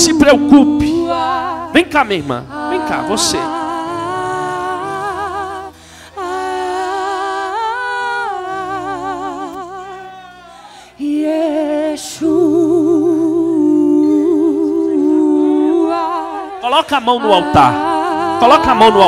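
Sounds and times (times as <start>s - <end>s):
person singing with vibrato: 0.0s - 19.0s
sustained accompaniment: 0.0s - 19.0s.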